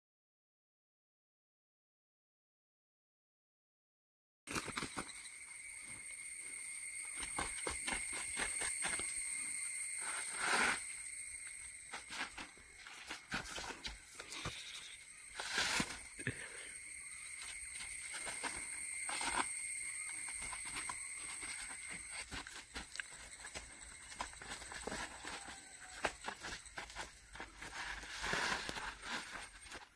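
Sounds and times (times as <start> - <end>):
hands and feet scraping bark: 4.5 - 29.9.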